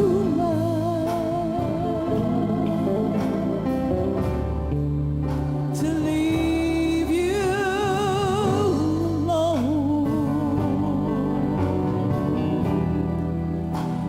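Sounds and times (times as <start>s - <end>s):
bass and instrumental backing: 0.0s - 14.0s
solo voice singing: 0.0s - 14.0s.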